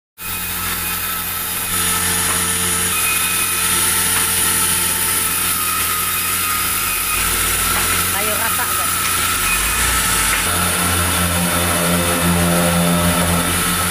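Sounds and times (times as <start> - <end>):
sawmill machinery humming and whining: 0.2 - 13.9.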